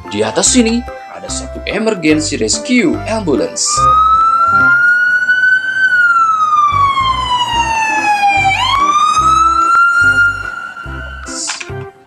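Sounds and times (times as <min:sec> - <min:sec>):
ambulance siren wailing: 0:01.3 - 0:11.8.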